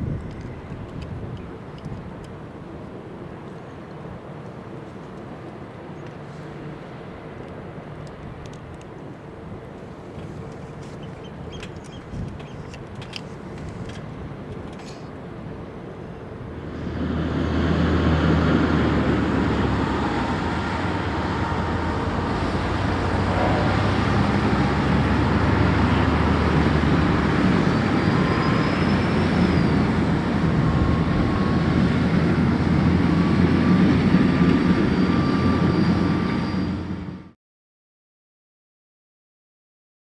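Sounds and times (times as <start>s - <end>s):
noisy wash: 0.0s - 36.2s
low engine rumble: 0.0s - 37.1s.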